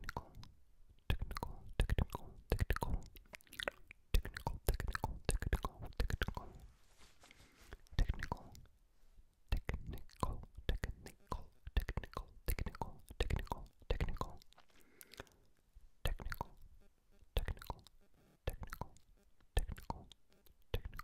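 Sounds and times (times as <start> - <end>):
lip smacks and tongue clicks: 0.0 - 6.7, 7.8 - 8.7, 9.5 - 16.6, 17.4 - 21.0
close whispering: 0.0 - 8.7, 9.5 - 16.7, 18.5 - 21.0.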